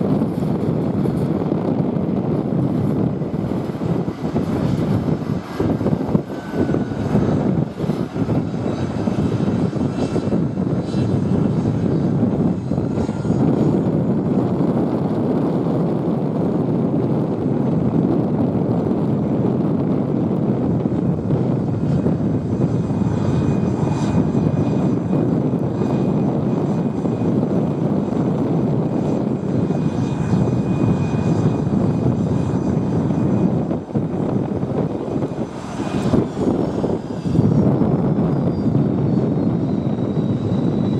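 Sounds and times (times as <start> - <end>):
faint high engine whine: 0.0 - 40.9
jet engines taxiing: 0.0 - 40.9.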